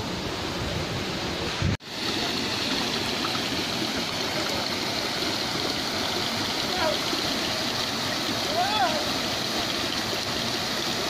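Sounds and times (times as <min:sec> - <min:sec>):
stream running over rocks: 0:00.0 - 0:11.0
waterfall rushing: 0:00.0 - 0:11.0.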